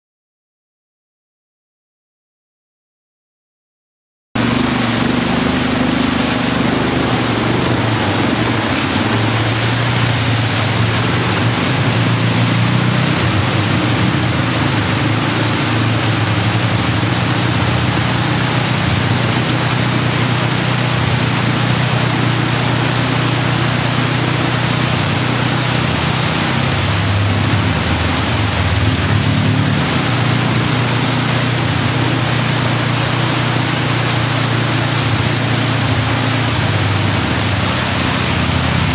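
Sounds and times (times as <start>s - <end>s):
atv engines running: 4.4s - 38.9s
water splashing and spraying: 4.4s - 38.9s.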